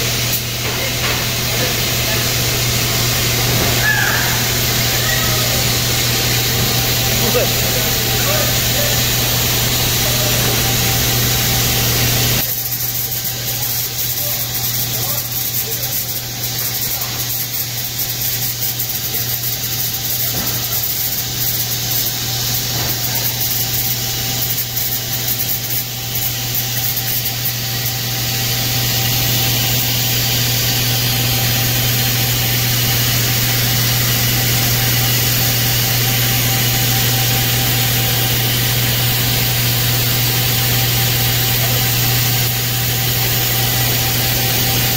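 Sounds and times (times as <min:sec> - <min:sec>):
conveyor machine hum: 0:00.0 - 0:44.9.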